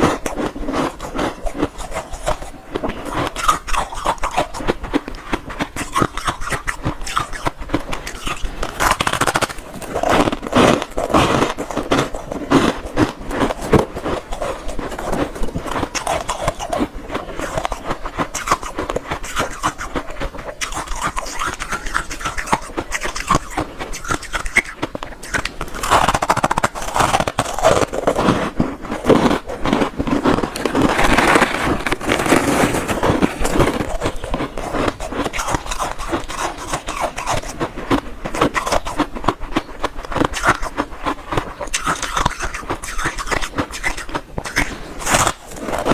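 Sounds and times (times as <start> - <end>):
chewing crunching ice: 0.0 - 45.9.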